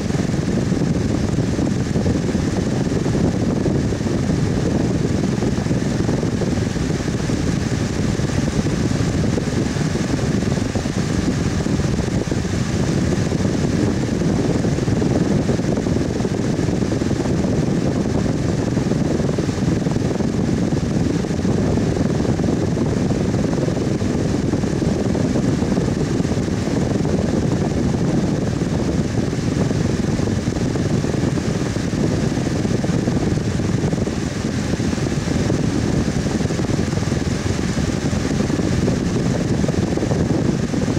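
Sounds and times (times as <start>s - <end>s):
electric fan air rush: 0.0s - 40.9s.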